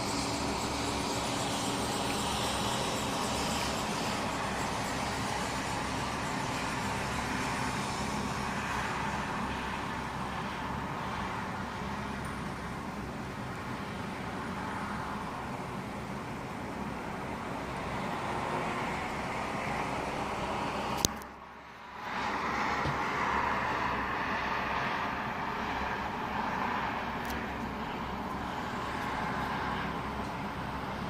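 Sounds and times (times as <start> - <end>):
city road traffic: 0.0 - 31.0.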